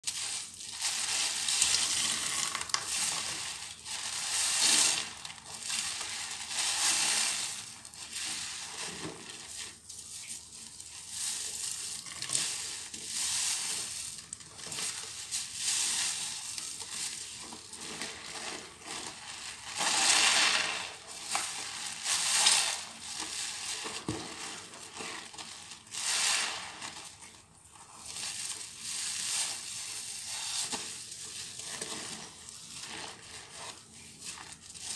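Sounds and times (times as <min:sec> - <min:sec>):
sponge squelching: 0:00.0 - 0:34.9.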